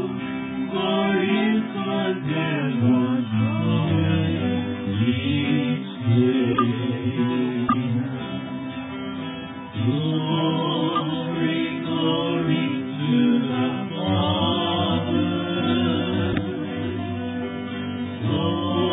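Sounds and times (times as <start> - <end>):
sustained singing: 0.0 - 8.6, 9.6 - 18.9
acoustic guitars: 0.0 - 18.9.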